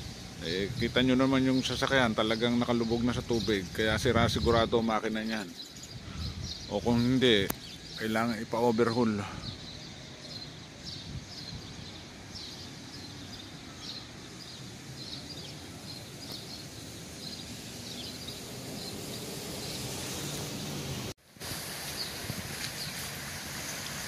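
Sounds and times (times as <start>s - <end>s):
small birds chirping: 0.0s - 21.1s, 21.8s - 24.0s
steady outdoor hiss: 0.0s - 24.0s.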